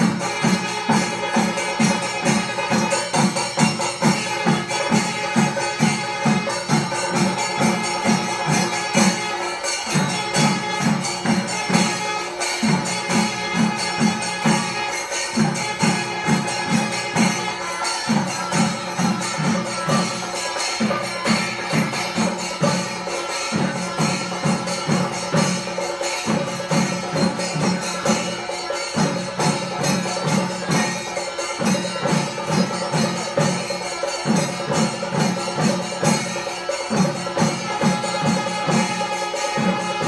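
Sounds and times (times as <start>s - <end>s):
drums beaten with sticks: 0.0s - 40.0s.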